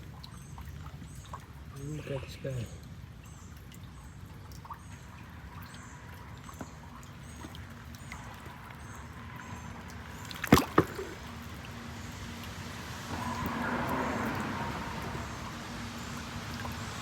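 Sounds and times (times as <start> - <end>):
water splashing: 0.0 - 17.0.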